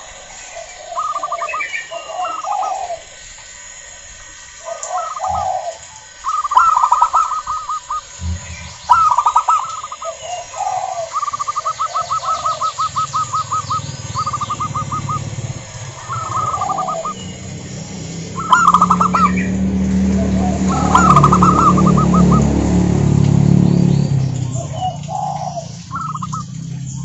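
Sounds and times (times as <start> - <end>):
doves cooing: 0.0 - 27.0
low steady hum: 0.0 - 27.0
small birds chirping: 0.0 - 27.0.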